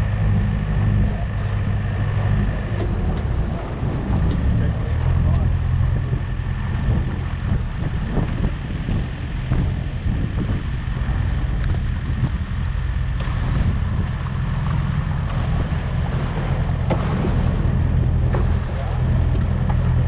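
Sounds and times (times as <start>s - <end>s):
boat engine droning: 0.0s - 20.0s
wind noise on microphone: 0.0s - 20.0s.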